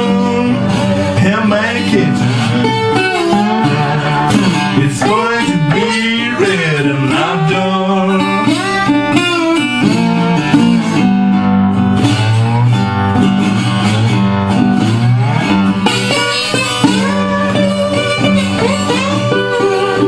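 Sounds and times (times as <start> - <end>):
blues slide guitar: 0.0 - 20.0.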